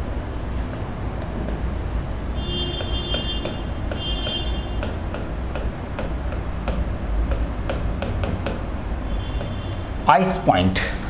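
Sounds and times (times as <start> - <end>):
marker squeaks: 0.0 - 2.1, 2.7 - 10.1
marker writing on a board: 0.0 - 10.3
steady low hum: 0.0 - 11.0.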